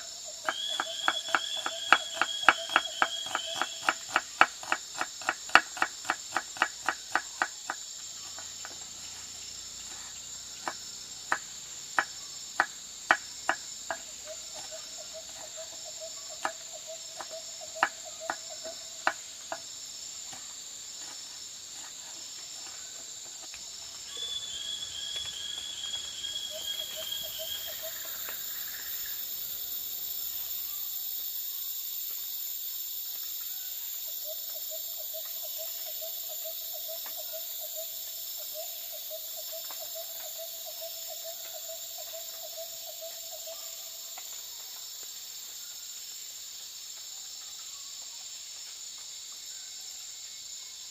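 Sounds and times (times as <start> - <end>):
crickets and insects chirping: 0.0 - 50.9
high insect buzz: 0.0 - 50.9.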